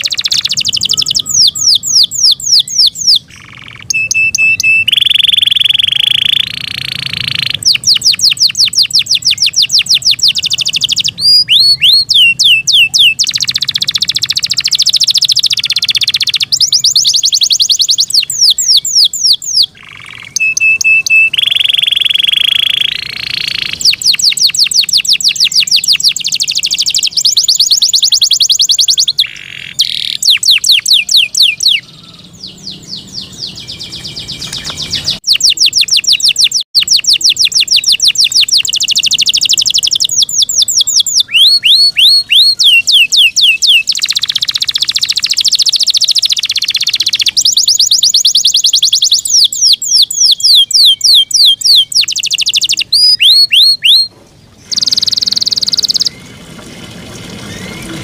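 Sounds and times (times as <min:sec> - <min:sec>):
canary singing trills: 0:00.0 - 0:56.4.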